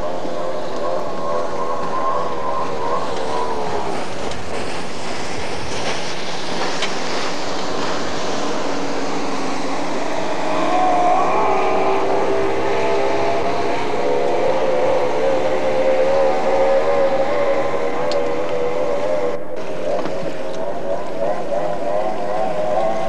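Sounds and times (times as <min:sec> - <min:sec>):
speedboat engine drone: 0:00.0 - 0:23.0.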